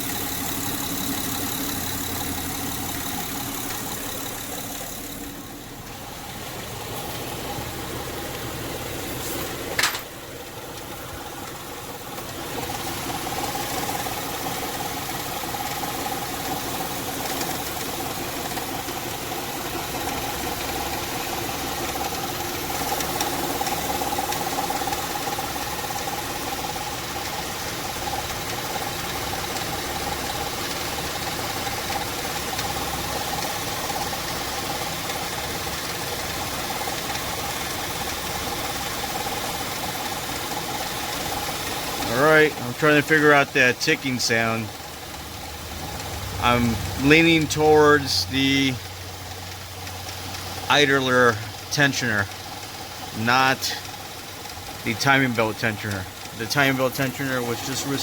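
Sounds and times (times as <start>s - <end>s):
car engine running: 0.0s - 58.0s
engine ticking: 0.0s - 58.0s.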